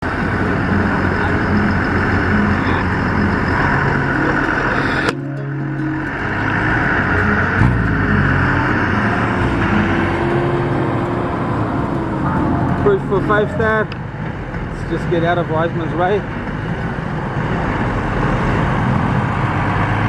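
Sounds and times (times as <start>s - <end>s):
motor engines running: 0.0s - 20.0s.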